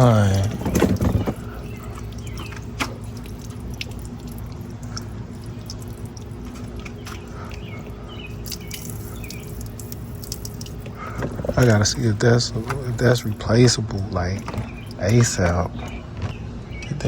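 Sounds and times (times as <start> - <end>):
coolant dripping and trickling: 0.0 - 17.0
steady low hum: 0.0 - 17.0.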